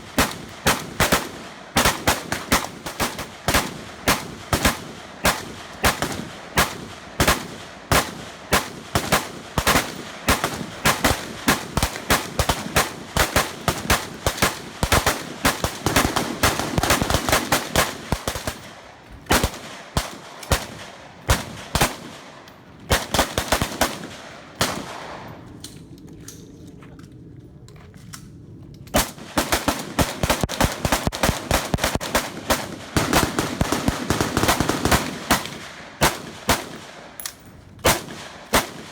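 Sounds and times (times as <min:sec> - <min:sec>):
rifles firing rapid shots: 0:00.0 - 0:25.4, 0:28.9 - 0:38.9.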